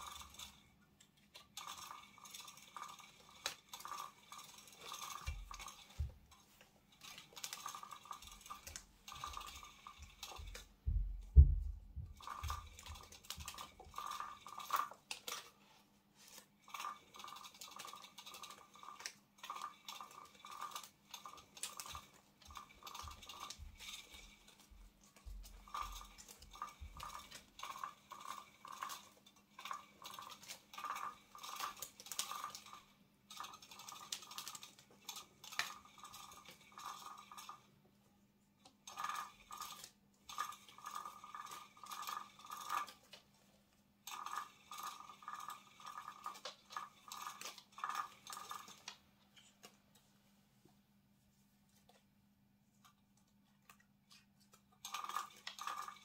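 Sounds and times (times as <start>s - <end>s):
cat toy motor clicking rattle: 0.0s - 0.7s, 1.3s - 10.7s, 12.2s - 15.6s, 16.3s - 37.7s, 38.7s - 43.2s, 44.0s - 49.0s, 54.8s - 56.0s.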